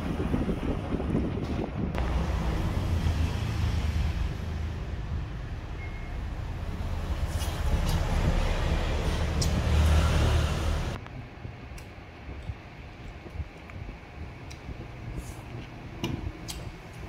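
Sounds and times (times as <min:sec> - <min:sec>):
low rumbling noise: 0:00.0 - 0:16.4.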